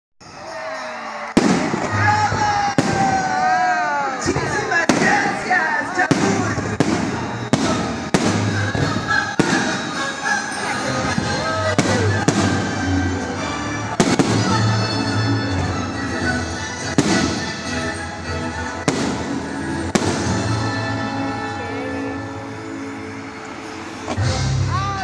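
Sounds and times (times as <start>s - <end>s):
music playing: 0.2s - 25.0s.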